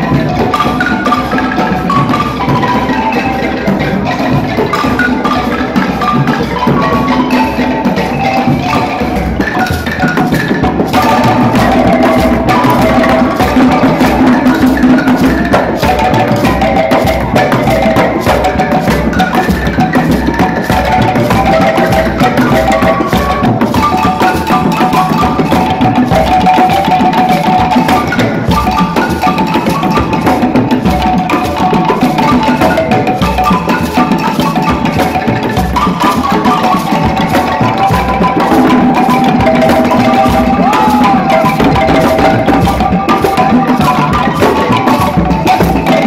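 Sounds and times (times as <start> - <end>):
drums and percussion: 0.0 - 46.0
xylophone melody: 0.0 - 46.0.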